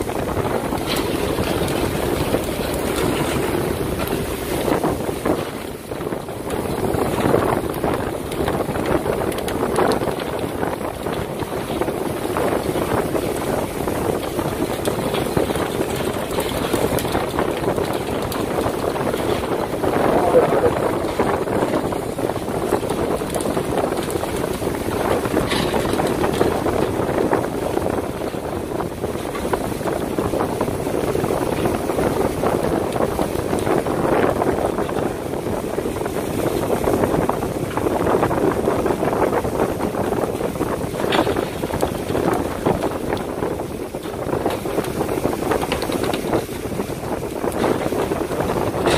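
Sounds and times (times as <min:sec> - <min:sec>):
boat engine: 0:00.0 - 0:48.9
rushing water: 0:00.0 - 0:48.9
wind buffeting microphone: 0:00.0 - 0:48.9.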